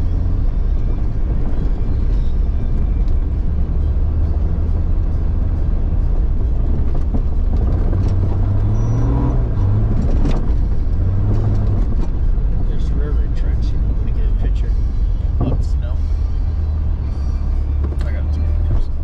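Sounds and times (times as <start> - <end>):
car engine running while driving: 0.0 - 19.0.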